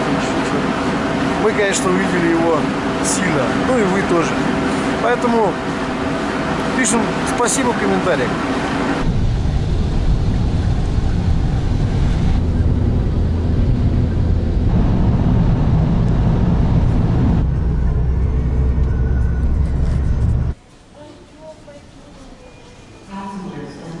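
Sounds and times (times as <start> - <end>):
aircraft engine drone: 0.0 - 20.6.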